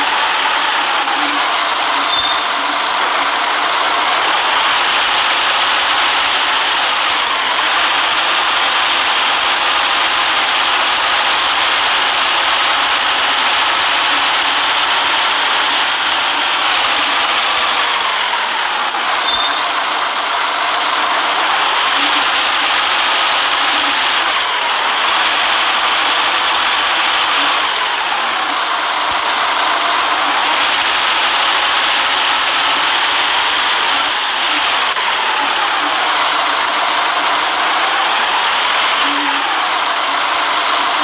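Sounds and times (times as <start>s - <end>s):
bus engine: 0.0s - 41.0s.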